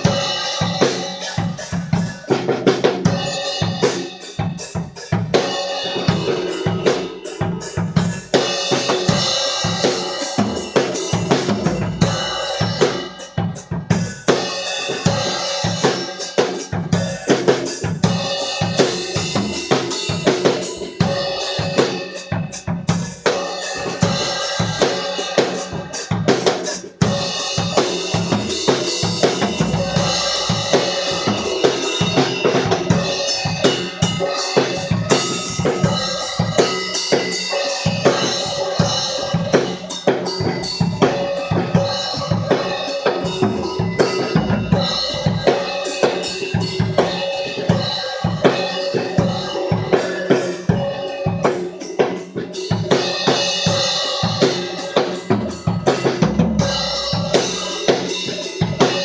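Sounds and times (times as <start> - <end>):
rock drum beat: 0.0 - 59.0.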